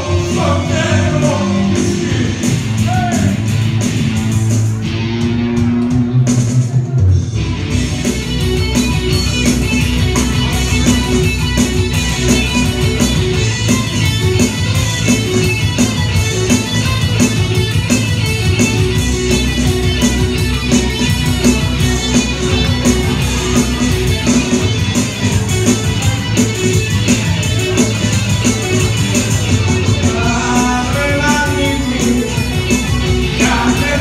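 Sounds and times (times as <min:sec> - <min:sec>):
bass guitar: 0:00.0 - 0:34.0
drum kit steady beat: 0:00.0 - 0:34.0
electric and acoustic guitars: 0:00.0 - 0:34.0.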